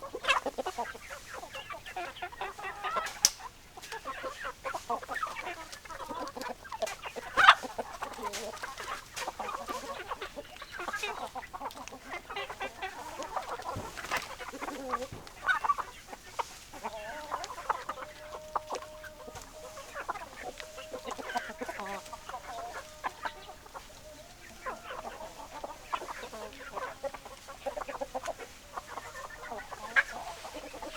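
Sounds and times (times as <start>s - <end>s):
hens clucking: 0.0s - 30.9s.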